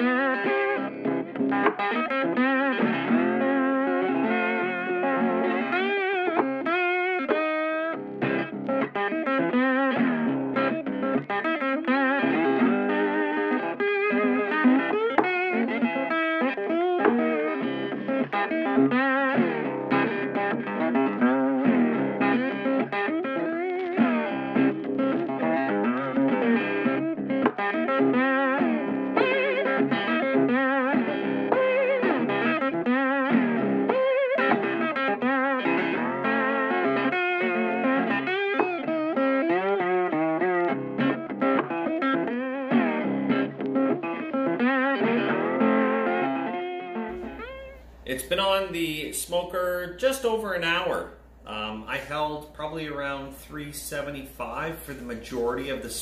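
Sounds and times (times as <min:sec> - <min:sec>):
electric guitar melody: 0:00.0 - 0:56.0.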